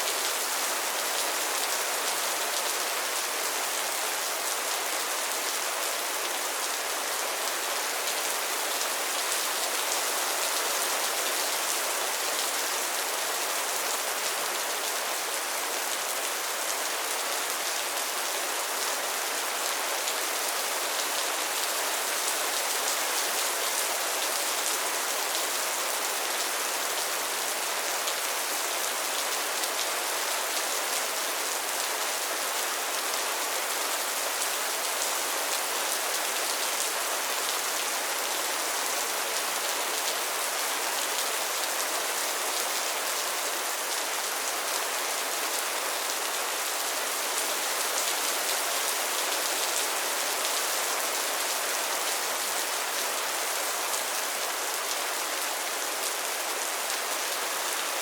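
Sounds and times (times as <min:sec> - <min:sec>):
rain falling on a pond: 0:00.0 - 0:58.0.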